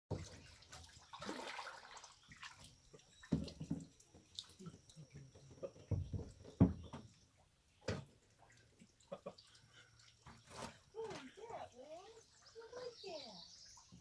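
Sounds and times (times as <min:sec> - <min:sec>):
water splashes and drips: 0:00.1 - 0:14.0.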